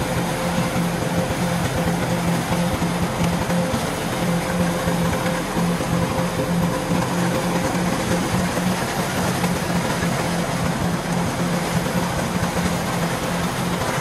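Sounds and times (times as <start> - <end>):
combine harvester running: 0.0 - 14.0.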